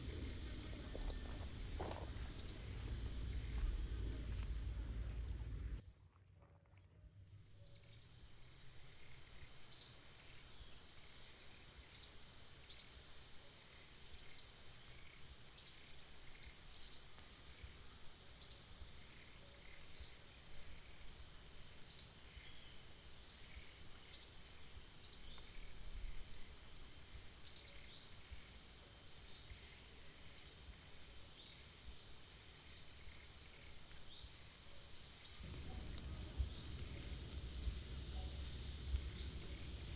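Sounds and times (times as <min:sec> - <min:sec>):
high-pitched insect drone: 0:00.0 - 0:05.8, 0:07.9 - 0:39.9.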